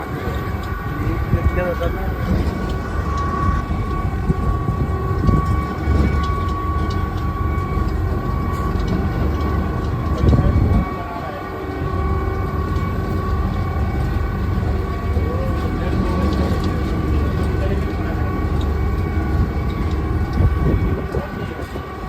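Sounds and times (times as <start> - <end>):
steady high whine: 0.0 - 22.0
train rumbling: 0.0 - 22.0.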